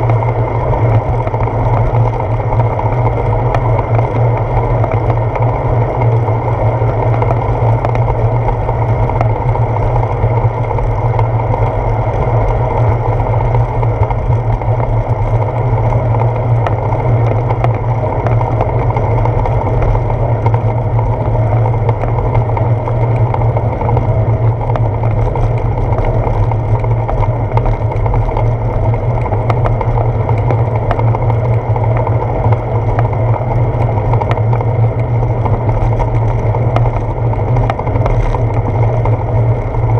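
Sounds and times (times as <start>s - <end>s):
bicycle road noise: 0.0s - 39.9s
faint ticks from bumps: 0.0s - 39.9s
wind rumble: 0.0s - 39.9s.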